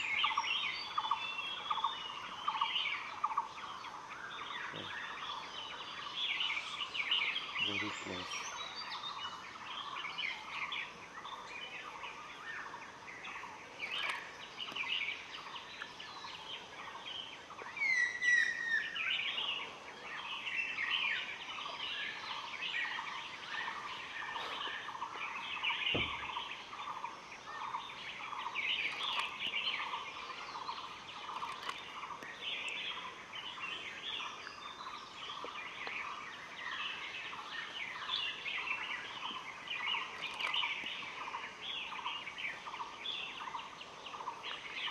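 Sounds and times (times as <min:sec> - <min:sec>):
wild birds calling: 0:00.0 - 0:44.9.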